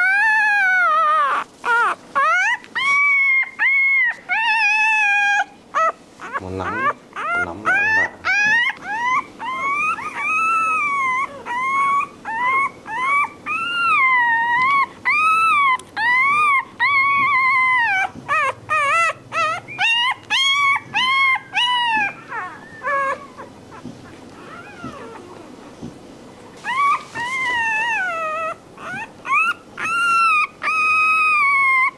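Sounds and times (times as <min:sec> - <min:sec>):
puppy crying and whining: 0:00.0 - 0:31.9.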